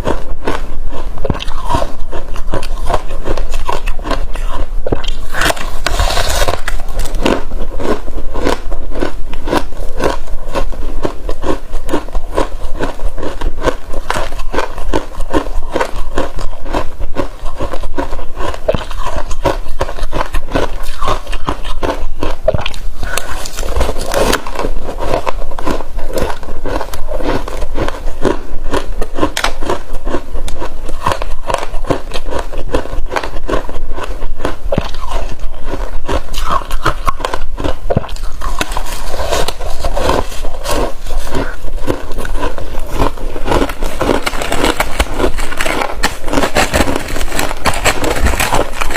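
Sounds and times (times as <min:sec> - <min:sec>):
crunching and chewing ice: 0:00.0 - 0:48.9.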